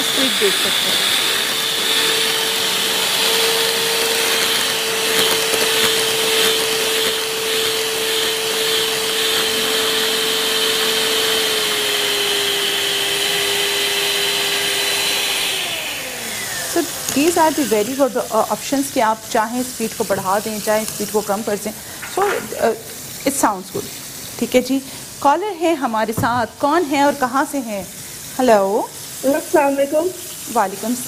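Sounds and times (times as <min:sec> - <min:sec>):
electric hand mixer whining: 0:00.0 - 0:31.0.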